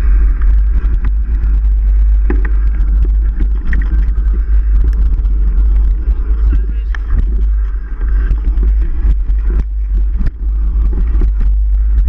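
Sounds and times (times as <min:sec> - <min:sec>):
bike clicks and rattles: 0:00.0 - 0:12.0
low wind rumble: 0:00.0 - 0:12.0.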